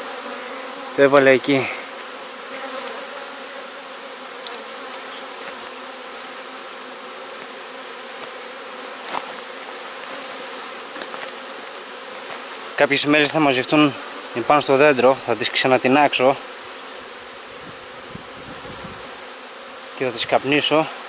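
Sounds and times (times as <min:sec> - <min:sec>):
bee swarm buzzing: 0:00.0 - 0:21.0.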